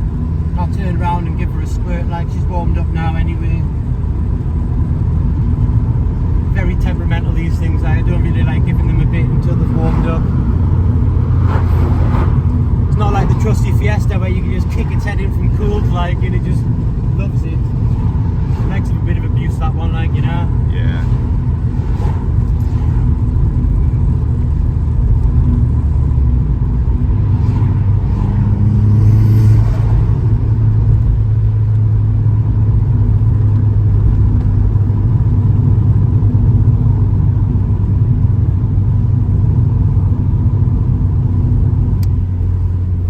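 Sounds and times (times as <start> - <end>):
car engine droning: 0.0 - 43.0
road noise inside car: 0.0 - 43.0.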